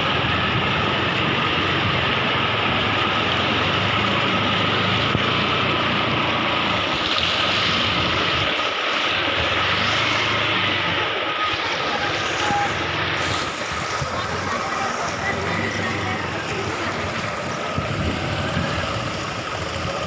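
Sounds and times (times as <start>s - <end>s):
engine running: 0.0s - 20.0s
loud rushing noise: 0.0s - 20.0s.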